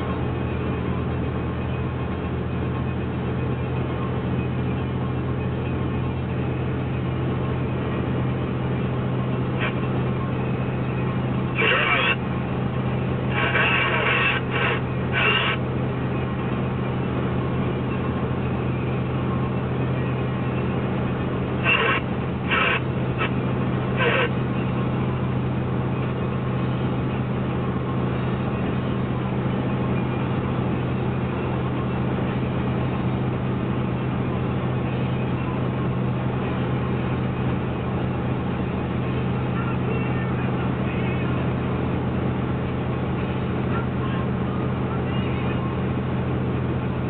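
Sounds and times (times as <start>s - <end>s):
truck engine drone: 0.0s - 47.0s.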